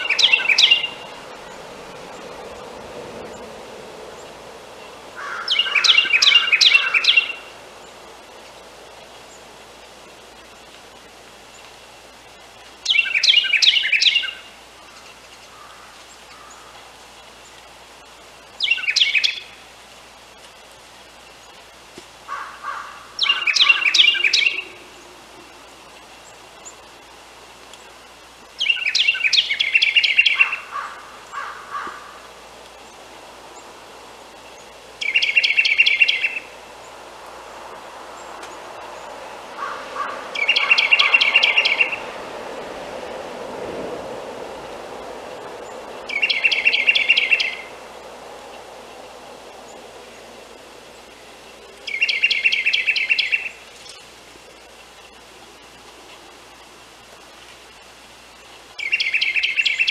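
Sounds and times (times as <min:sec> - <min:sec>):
wren singing: 0:00.0 - 0:16.7, 0:17.4 - 0:19.6, 0:22.3 - 0:37.0, 0:38.1 - 0:42.2, 0:45.5 - 0:47.8, 0:49.6 - 0:55.3, 0:56.6 - 0:59.9.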